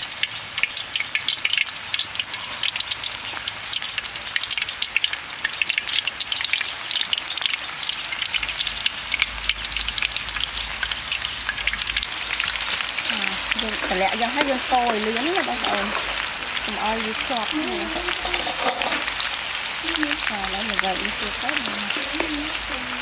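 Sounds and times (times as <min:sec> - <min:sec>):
food deep-frying in hot oil: 0:00.0 - 0:23.0.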